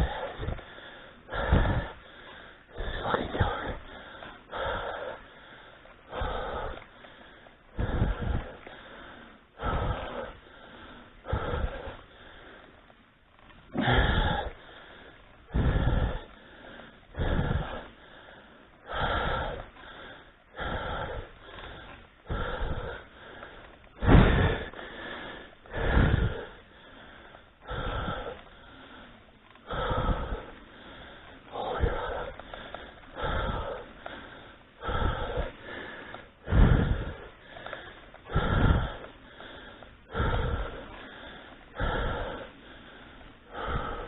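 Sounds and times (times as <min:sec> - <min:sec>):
person gasping breaths: 0:00.0 - 0:44.0.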